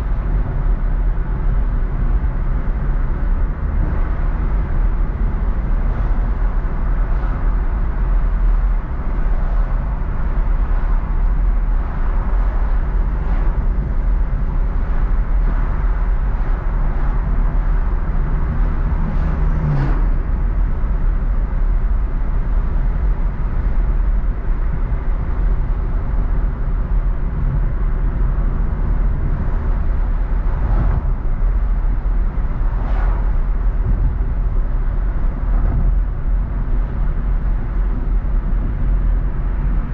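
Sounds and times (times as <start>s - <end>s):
car driving low rumble: 0.0s - 39.9s.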